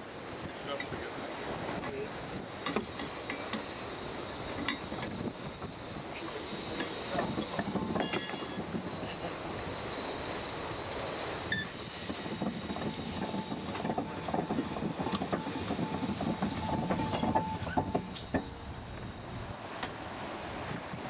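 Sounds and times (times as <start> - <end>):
thin steady whine: 0.0 - 20.6
steam hissing: 0.0 - 21.0.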